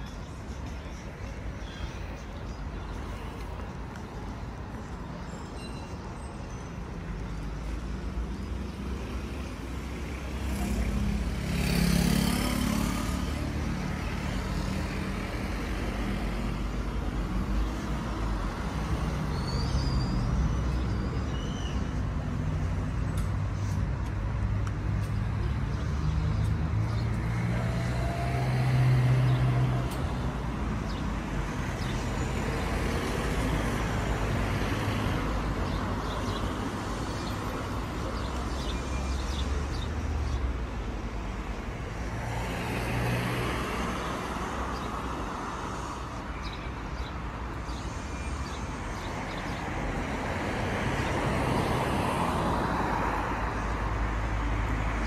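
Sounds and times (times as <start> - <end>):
cars passing on street: 0.0 - 55.0.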